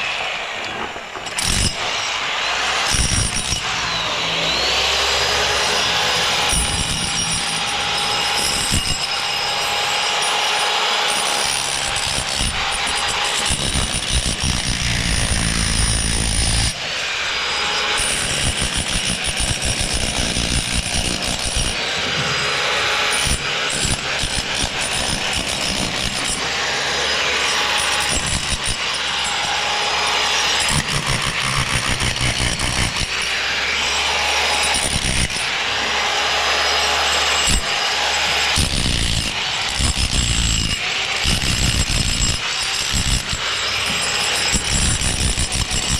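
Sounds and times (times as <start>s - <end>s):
power tools and machinery running: 0.0s - 45.9s.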